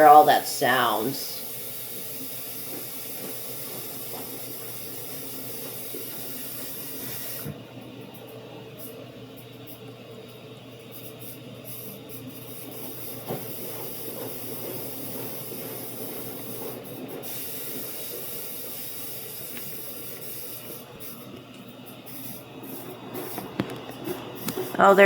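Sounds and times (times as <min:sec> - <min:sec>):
water running into washing machine: 0:00.0 - 0:25.0.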